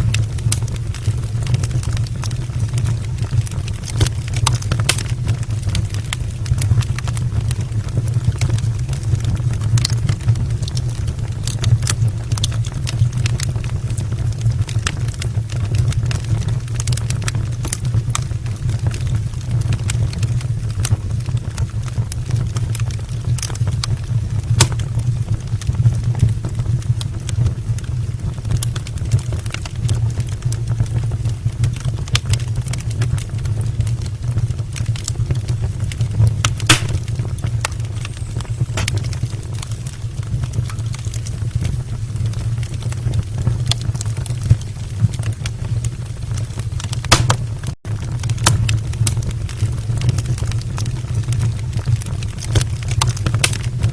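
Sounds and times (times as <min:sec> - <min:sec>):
fire crackling and popping: 0:00.0 - 0:53.9
low rumble of fire: 0:00.0 - 0:53.9.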